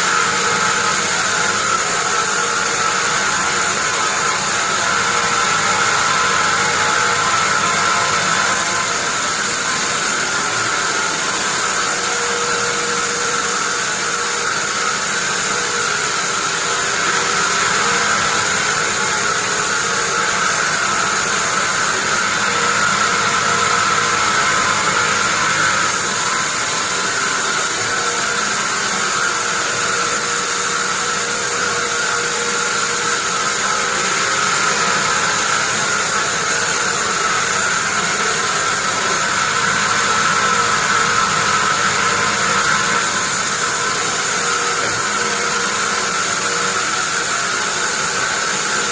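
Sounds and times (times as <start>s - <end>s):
bandsaw running: 0.0s - 48.9s.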